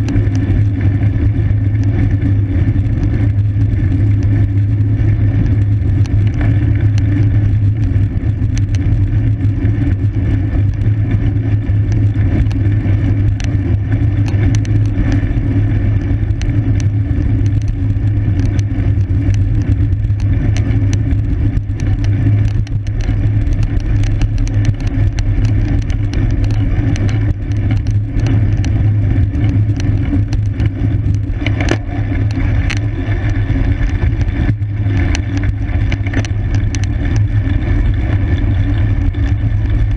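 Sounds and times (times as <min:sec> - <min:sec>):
bike ticks and knocks: 0:00.0 - 0:39.9.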